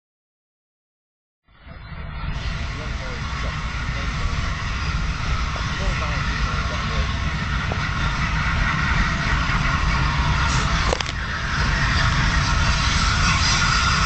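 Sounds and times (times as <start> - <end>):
low rumble: 1.5 - 14.0
steam hissing: 1.8 - 14.0.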